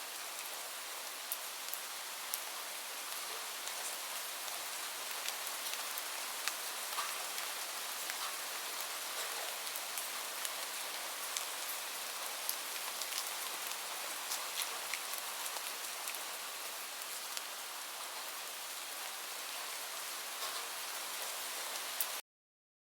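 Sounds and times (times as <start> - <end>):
steady rain hiss: 0.0 - 22.2
raindrops striking a surface: 0.1 - 22.2.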